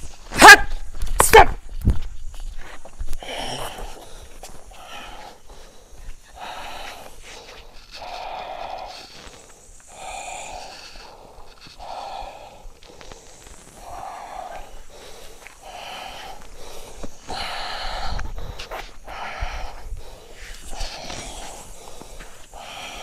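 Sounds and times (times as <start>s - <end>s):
person breathing hard: 3.1s - 23.0s.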